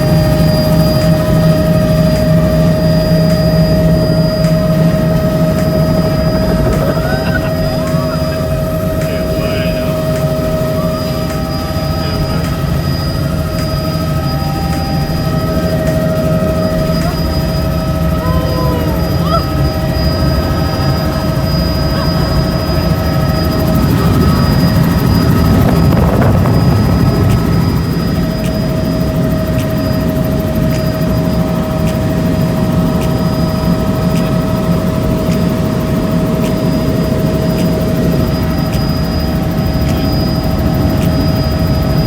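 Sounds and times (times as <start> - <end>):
helicopter rotor and engine rumble: 0.0 - 42.0
high whine: 0.0 - 42.0.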